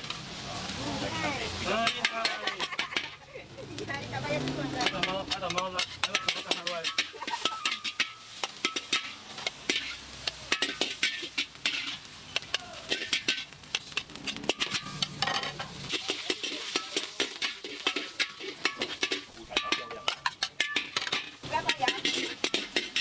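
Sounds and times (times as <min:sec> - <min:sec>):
food sizzling: 0:00.0 - 0:23.0
metal ladle scraping a wok: 0:00.0 - 0:23.0.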